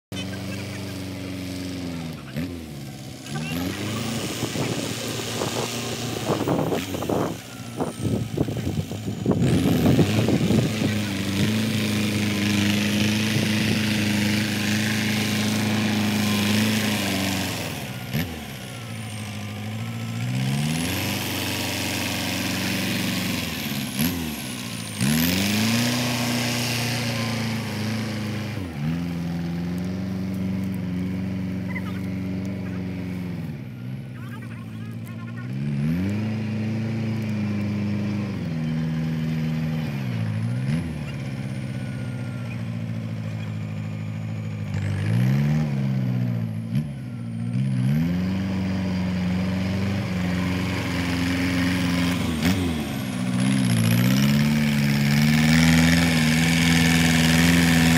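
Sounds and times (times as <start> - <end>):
tractor diesel engine straining: 0.1 - 57.9.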